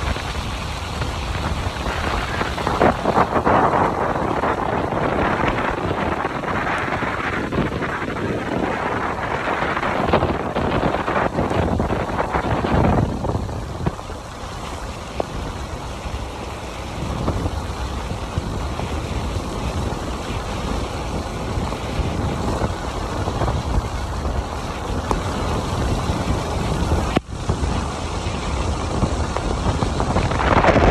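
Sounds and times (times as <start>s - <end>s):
rain falling: 0.0s - 30.9s
wind buffeting microphone: 0.0s - 30.9s.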